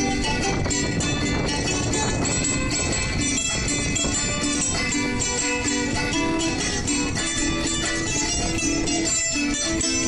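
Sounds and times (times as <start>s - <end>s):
plucked string instruments: 0.0s - 10.0s.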